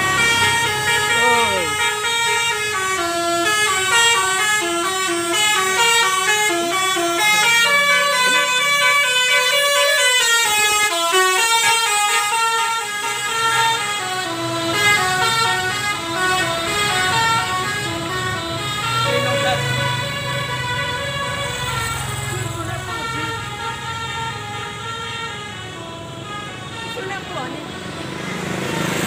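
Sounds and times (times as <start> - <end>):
bus musical horn playing tune: 0.0 - 28.1
bus passing: 0.0 - 29.0.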